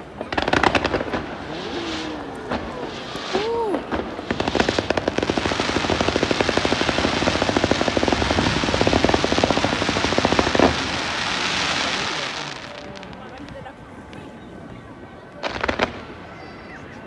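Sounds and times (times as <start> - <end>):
crackling hiss: 0.0 - 17.0
fireworks crackling: 0.0 - 17.0.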